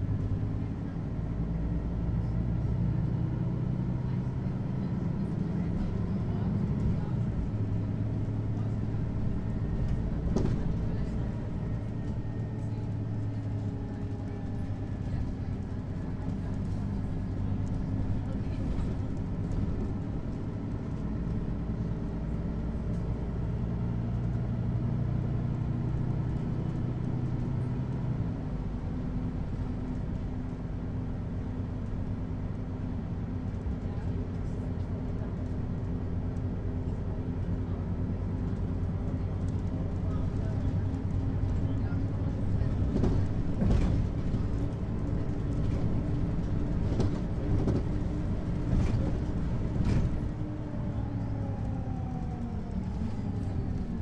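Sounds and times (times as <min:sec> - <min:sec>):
bus engine hum: 0:00.0 - 0:54.0.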